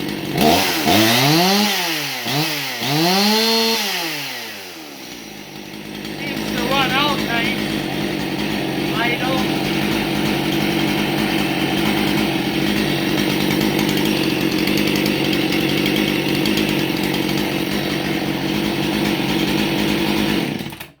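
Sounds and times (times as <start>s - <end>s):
chainsaw engine running steadily: 0.0s - 21.0s.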